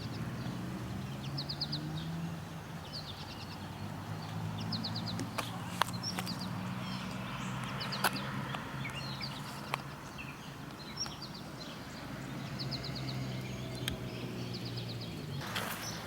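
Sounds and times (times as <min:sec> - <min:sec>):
birds chirping: 0:00.0 - 0:16.0
rustle: 0:00.0 - 0:16.0.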